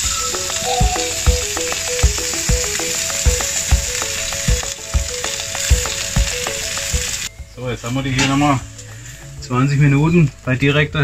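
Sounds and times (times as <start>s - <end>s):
background music with beat: 0.0s - 10.2s
chicken sizzling on a grill: 0.0s - 11.0s.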